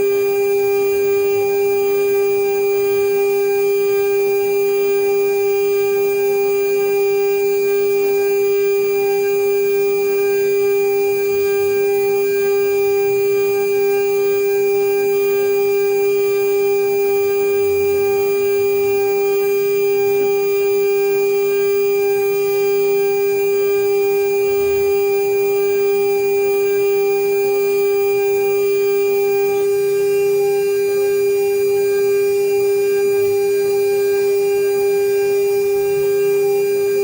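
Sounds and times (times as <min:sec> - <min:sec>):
router spindle whine: 0:00.0 - 0:37.0.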